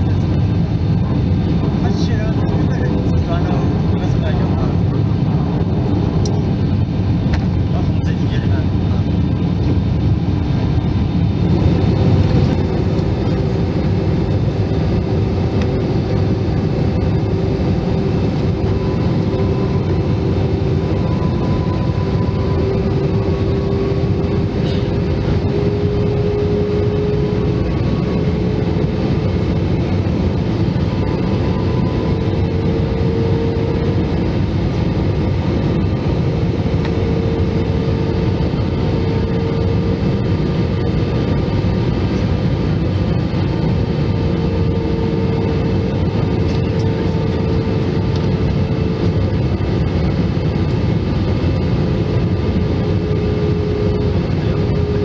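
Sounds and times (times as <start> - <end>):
engine hum: 0.0 - 55.0
jet engine roar in cabin: 0.0 - 55.0.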